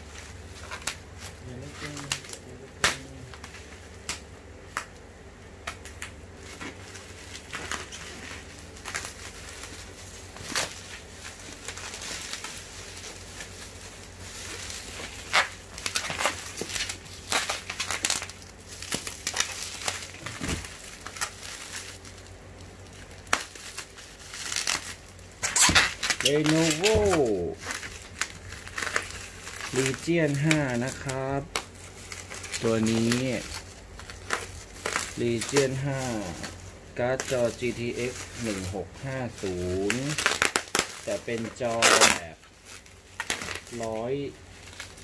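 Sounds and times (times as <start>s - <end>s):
bubble wrap crinkling: 0.0s - 45.0s.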